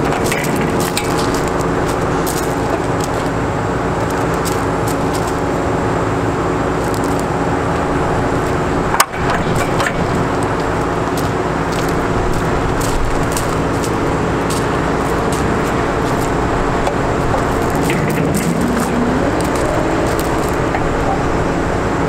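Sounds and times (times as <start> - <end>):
footsteps on gravel: 0.0 - 6.0, 6.6 - 21.4
diesel truck engine running: 0.0 - 22.0.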